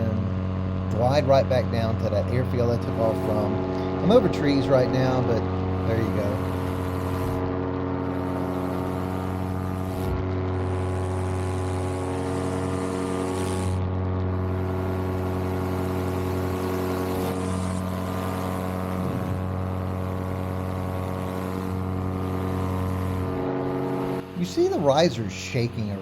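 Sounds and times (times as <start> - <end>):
paramotor engine droning: 0.0 - 26.0.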